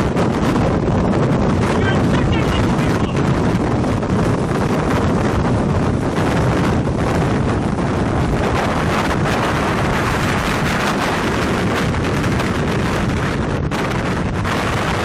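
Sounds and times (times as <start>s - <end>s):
wind blasting across microphone: 0.0s - 15.0s.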